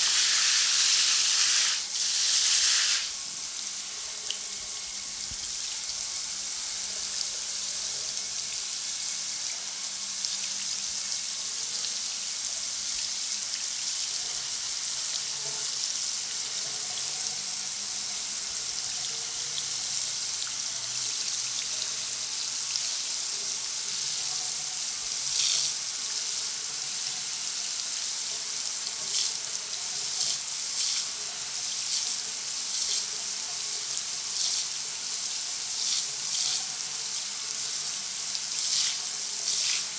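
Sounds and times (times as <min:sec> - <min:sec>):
shower spray running: 0:00.0 - 0:12.0, 0:12.7 - 0:39.9.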